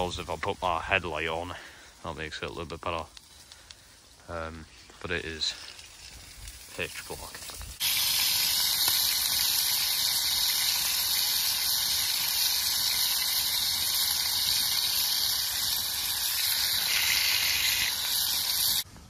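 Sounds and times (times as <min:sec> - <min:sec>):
steaks sizzling: 0:02.2 - 0:18.9.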